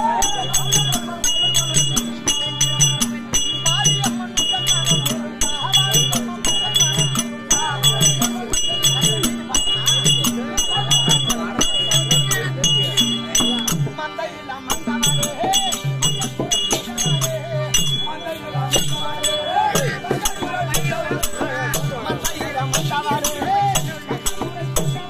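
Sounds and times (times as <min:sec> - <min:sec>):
drum rhythm: 0:00.0 - 0:25.0
jingling cymbals: 0:00.0 - 0:25.0
wavering melody: 0:00.0 - 0:25.0.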